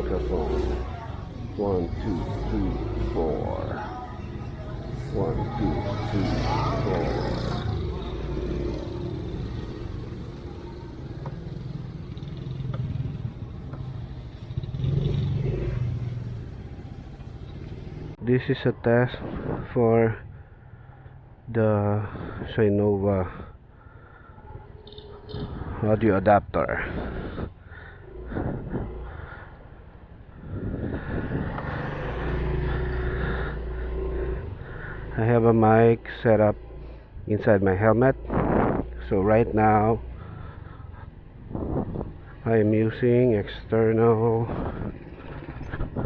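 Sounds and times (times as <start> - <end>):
road and wind noise: 0.0 - 46.0.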